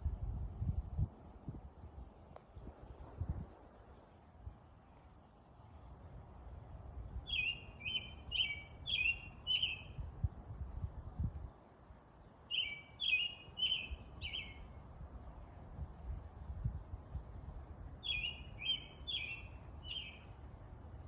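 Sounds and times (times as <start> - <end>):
songbird singing: 1.3 - 10.6, 11.2 - 17.1, 17.7 - 21.0.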